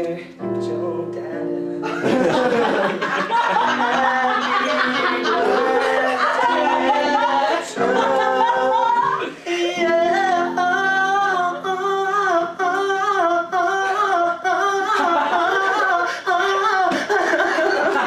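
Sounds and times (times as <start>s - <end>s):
electric keyboard chords: 0.0s - 15.7s
man singing: 0.0s - 18.0s.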